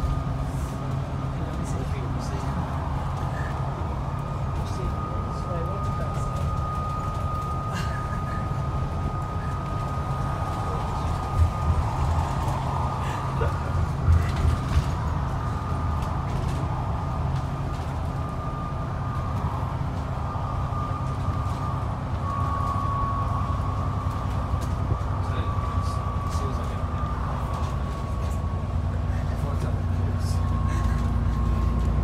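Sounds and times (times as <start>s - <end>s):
faint constant whine: 0.0s - 32.0s
vehicle rumble from inside cabin: 0.0s - 32.0s.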